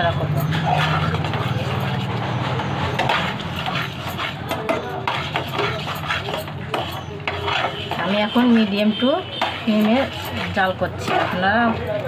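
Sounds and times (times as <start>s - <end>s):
metal spoon scraping a pan: 0.0s - 12.0s.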